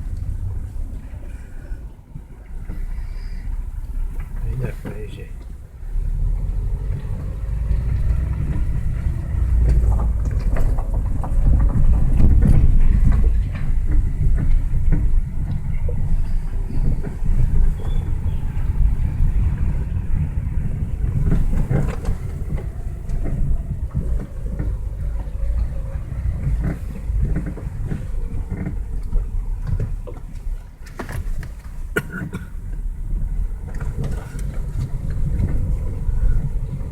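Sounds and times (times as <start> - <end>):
road and tyre rumble: 0.0 - 36.9
suspension creaking and knocking: 0.0 - 36.9.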